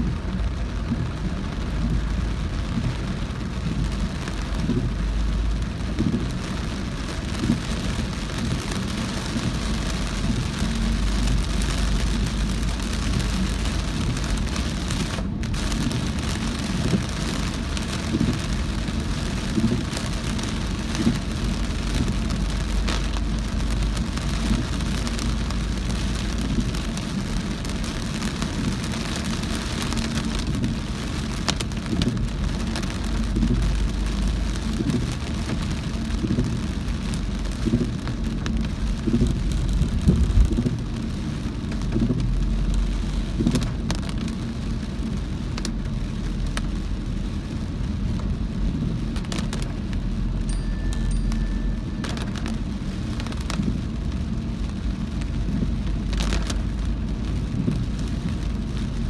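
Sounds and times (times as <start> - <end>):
car driving on wet road: 0.0 - 59.0
heavy rain on a car: 0.0 - 59.0.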